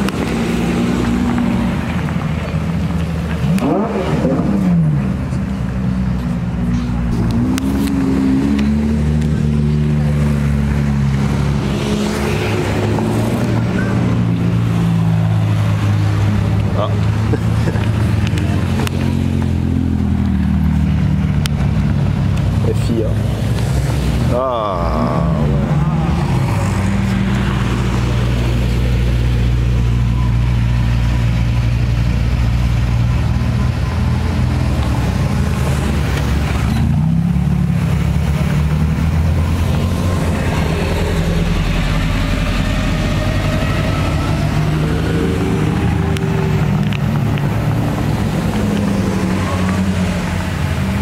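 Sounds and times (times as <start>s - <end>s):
sports car engines at low revs: 0.0s - 51.0s.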